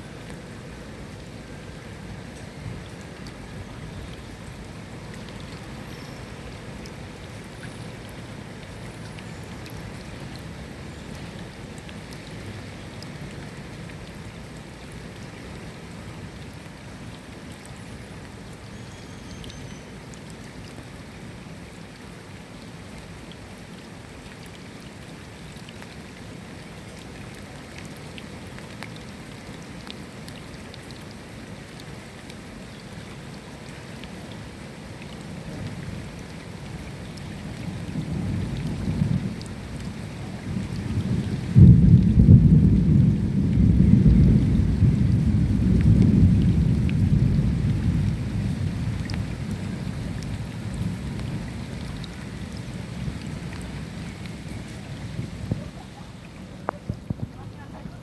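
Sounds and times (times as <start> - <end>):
steady rain hiss: 0.0 - 58.0
raindrops ticking: 0.1 - 58.0.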